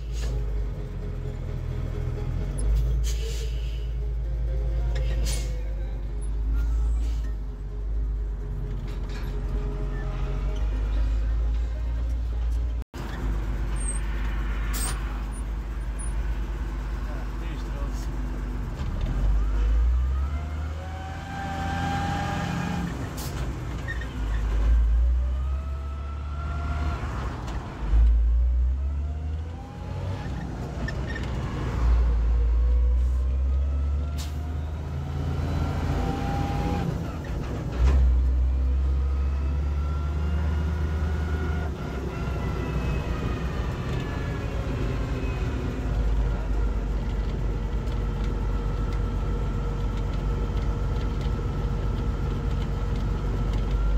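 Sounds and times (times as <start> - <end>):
tractor diesel engine: 0.0 - 53.9.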